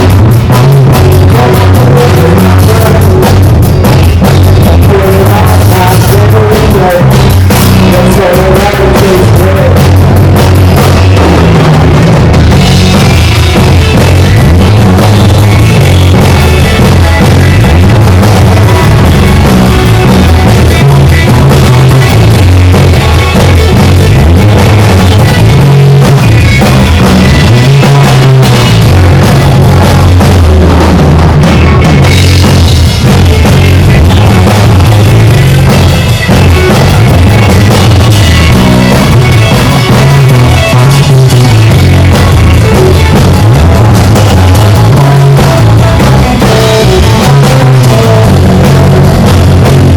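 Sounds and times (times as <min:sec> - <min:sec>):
drum kit: 0:00.0 - 0:49.9
electric guitar: 0:00.0 - 0:49.9
live rock band playing: 0:00.0 - 0:49.9.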